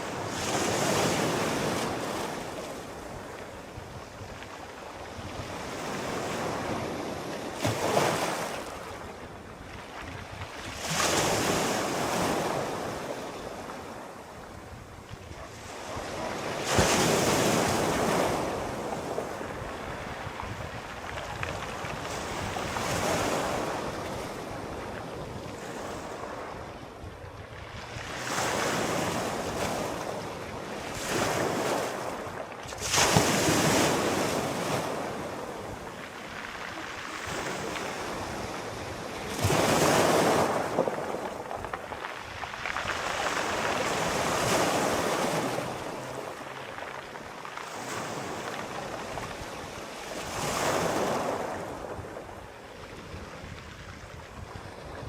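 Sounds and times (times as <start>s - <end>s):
sea waves breaking: 0.0s - 55.0s
wind: 0.0s - 55.0s.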